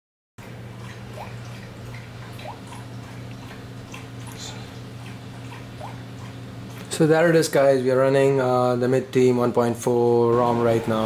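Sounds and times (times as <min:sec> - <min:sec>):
steady low hum: 0:00.4 - 0:11.0.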